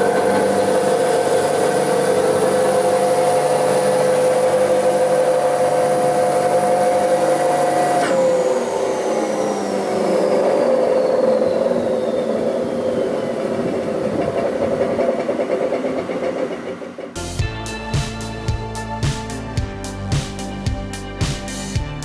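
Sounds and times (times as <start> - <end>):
spindle moulder whine: 0.0 - 21.9.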